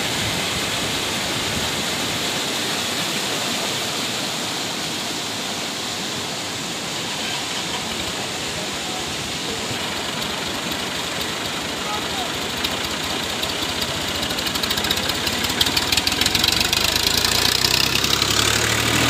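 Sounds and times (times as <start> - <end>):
floodwater rushing down a channel: 0.0 - 19.0.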